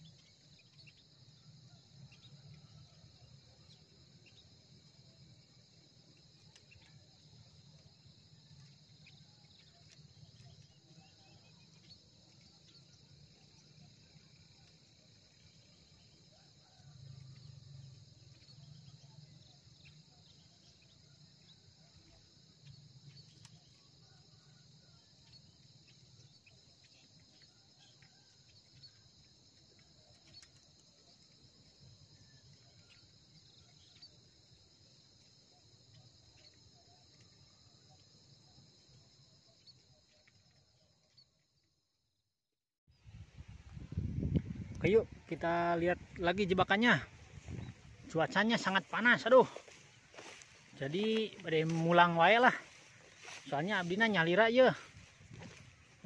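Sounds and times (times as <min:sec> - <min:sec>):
insects chirring: 0:00.0 - 0:42.2, 0:42.9 - 0:56.0.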